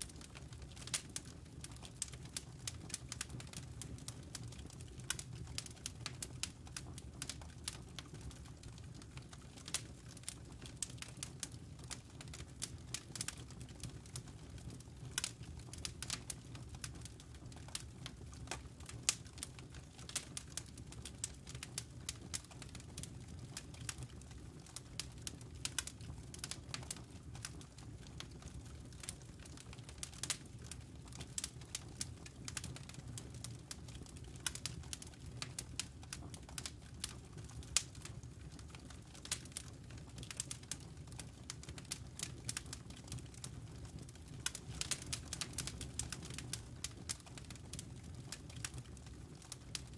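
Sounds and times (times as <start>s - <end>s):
campfire crackling and popping: 0.0s - 49.9s
low rumble of fire: 0.0s - 49.9s.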